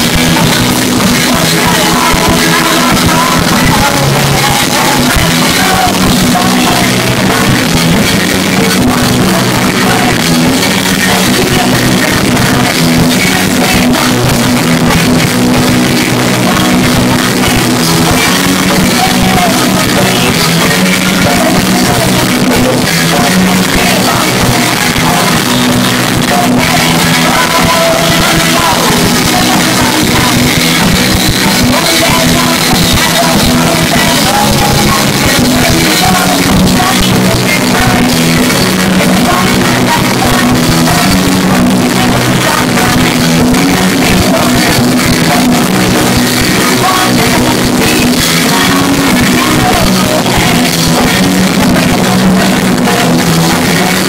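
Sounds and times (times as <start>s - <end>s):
live pop-punk band: 0.0s - 54.0s.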